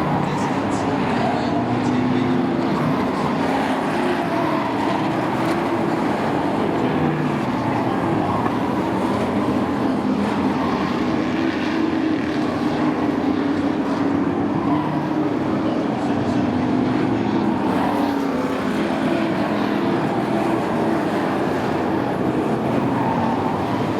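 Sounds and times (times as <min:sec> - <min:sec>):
racing truck engines: 0:00.0 - 0:23.9.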